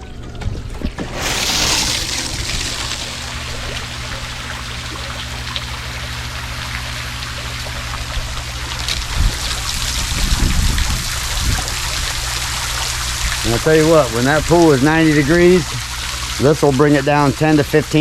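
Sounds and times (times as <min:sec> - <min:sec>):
steady low hum: 0:00.0 - 0:18.0
water spraying and splashing: 0:00.8 - 0:18.0.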